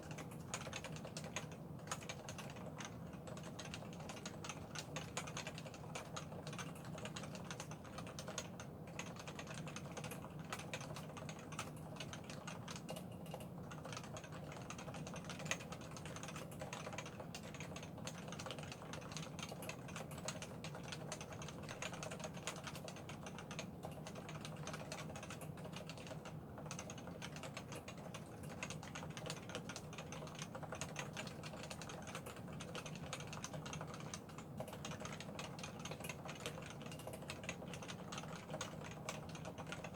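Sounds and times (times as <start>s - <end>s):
muted keyboard typing: 0.0s - 39.9s.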